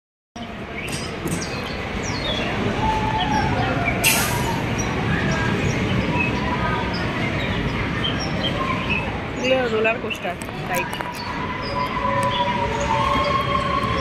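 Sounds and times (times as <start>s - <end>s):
amusement ride noise: 0.4s - 14.0s
crowd voices: 0.4s - 14.0s.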